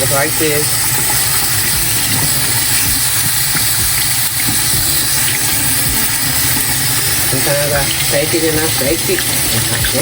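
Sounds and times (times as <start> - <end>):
kitchen tap running: 0.0 - 10.0
water pouring over lentils: 0.0 - 10.0.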